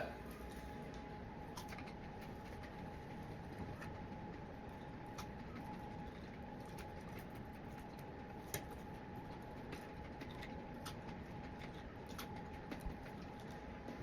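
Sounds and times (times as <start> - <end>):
chewing french fries: 0.0 - 14.0.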